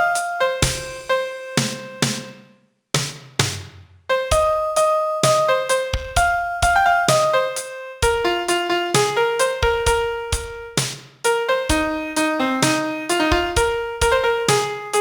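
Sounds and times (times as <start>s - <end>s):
slow piano melody: 0.0s - 2.6s, 4.1s - 15.0s.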